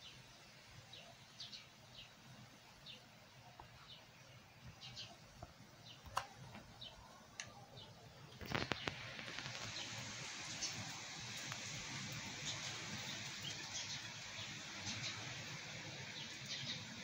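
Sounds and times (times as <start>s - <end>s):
small birds chirping: 0.0s - 17.0s
steady hiss: 0.0s - 17.0s.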